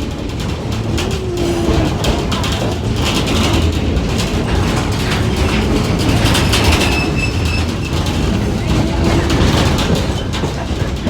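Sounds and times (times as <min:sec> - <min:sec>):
rail clicks and rattles: 0:00.0 - 0:11.0
train car rumbling on track: 0:00.0 - 0:11.0.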